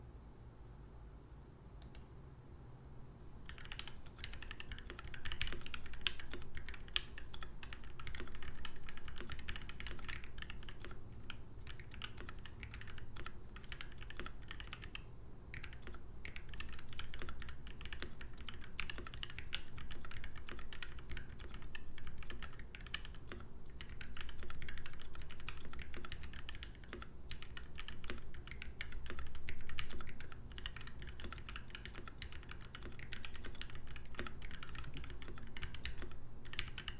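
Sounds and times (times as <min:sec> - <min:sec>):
fast mechanical keyboard typing: 0:03.4 - 0:36.9.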